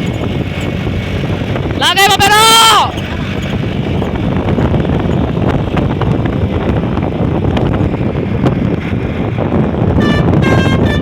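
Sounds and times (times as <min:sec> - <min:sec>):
bus engine rumbling: 0:00.0 - 0:11.0
wind buffeting microphone: 0:00.0 - 0:11.0.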